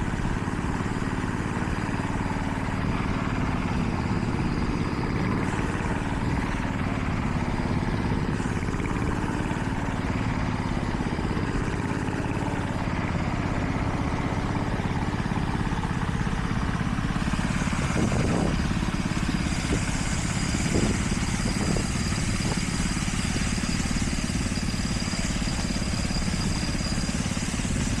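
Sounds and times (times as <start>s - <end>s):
machinery engine running: 0.0s - 28.0s.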